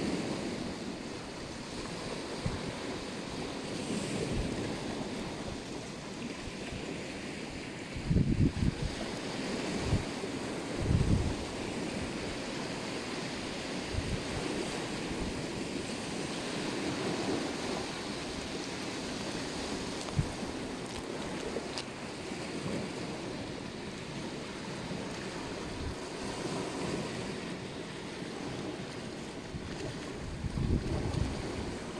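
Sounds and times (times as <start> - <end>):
surf washing over pebbles: 0.0 - 31.9
wind buffeting microphone: 0.0 - 31.9.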